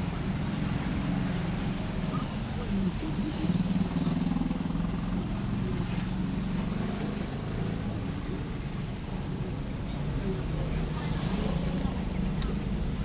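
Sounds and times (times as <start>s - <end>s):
car engine humming: 0.0s - 13.0s
road noise: 0.0s - 13.0s.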